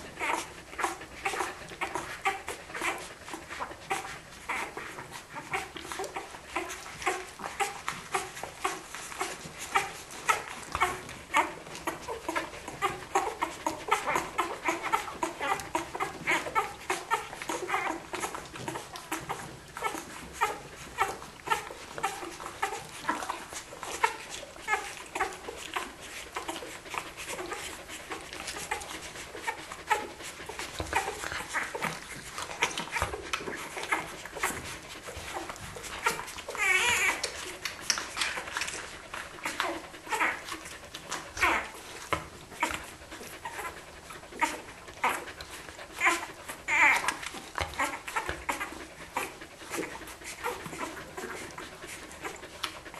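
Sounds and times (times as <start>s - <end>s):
puppies squeaking and whimpering: 0.0s - 52.9s.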